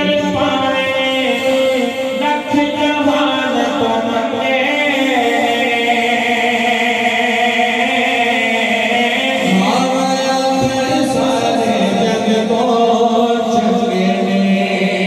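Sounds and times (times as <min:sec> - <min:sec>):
men singing unaccompanied: 0:00.0 - 0:15.0.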